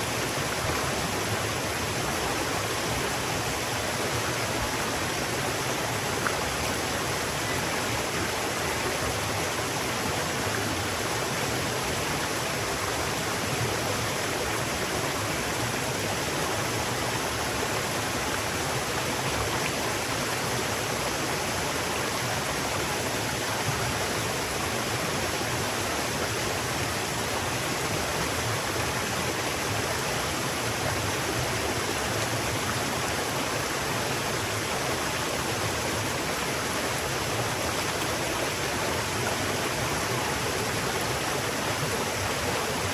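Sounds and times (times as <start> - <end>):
river water rushing: 0.0 - 42.9.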